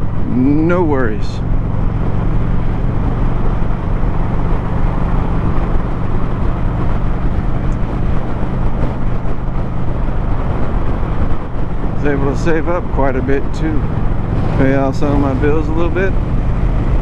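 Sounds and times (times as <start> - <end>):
motorcycle engine cruising: 0.0 - 17.0
wind and road rush: 0.0 - 17.0.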